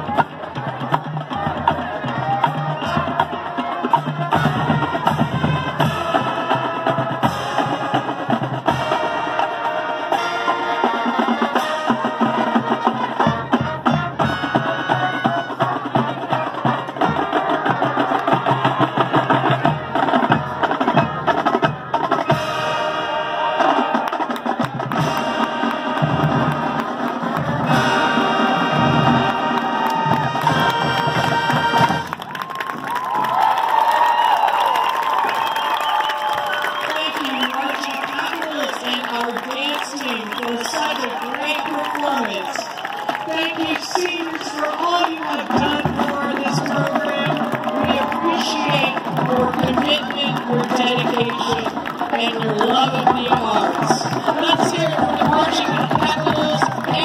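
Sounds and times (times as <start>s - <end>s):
marching band playing: 0.0s - 57.0s.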